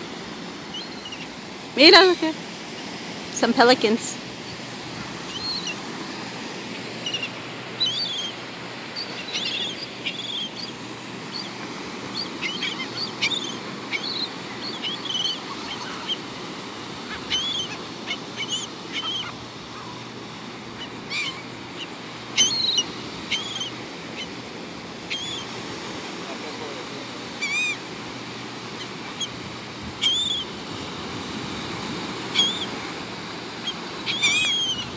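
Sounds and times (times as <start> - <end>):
surf rushing: 0.0 - 34.9
gulls squawking: 0.6 - 2.4, 3.8 - 34.9.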